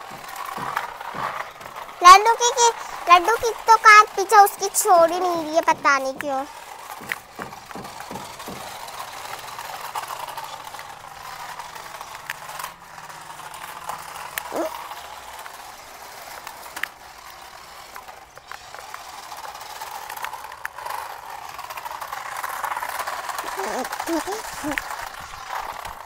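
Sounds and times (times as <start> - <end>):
electric toy car motors whirring: 0.0 - 26.0
plastic rattling: 0.0 - 26.0.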